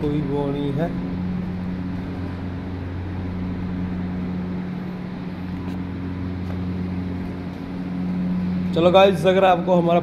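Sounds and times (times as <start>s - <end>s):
steady low motor hum: 0.0s - 10.0s.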